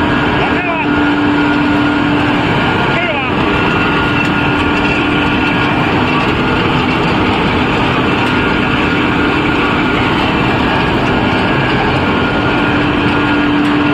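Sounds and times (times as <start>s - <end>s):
constant hum: 0.0s - 13.9s
machinery mechanical din: 0.0s - 13.9s.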